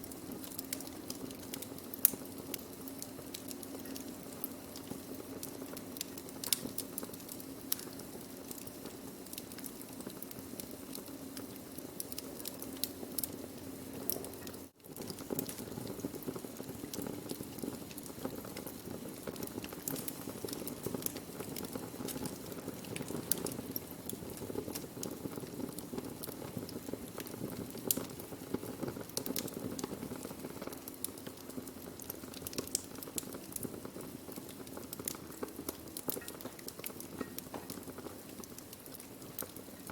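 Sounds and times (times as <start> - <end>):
burning wood crackling: 0.0 - 39.9
low rumble of flames: 0.0 - 39.9.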